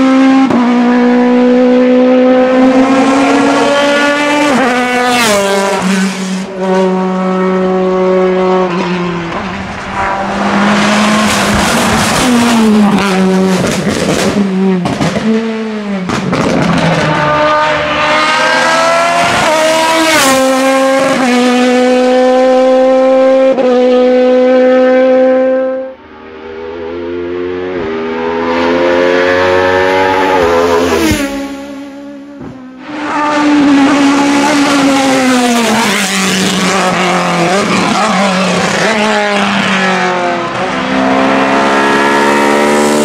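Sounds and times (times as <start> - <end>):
engine crackling and downshifts: 0.0 - 43.0
race car engine at full throttle: 0.0 - 43.0.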